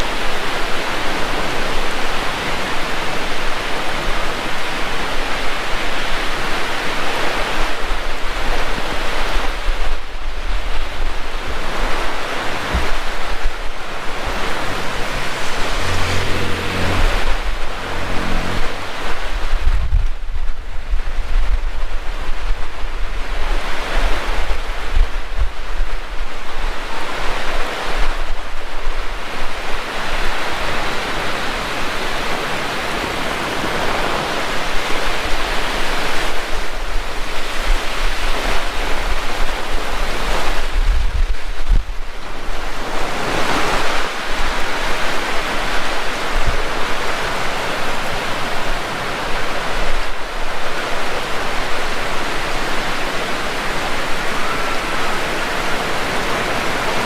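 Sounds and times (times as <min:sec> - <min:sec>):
heavy rain pouring: 0:00.0 - 0:57.0
wind gusting on microphone: 0:00.0 - 0:57.0.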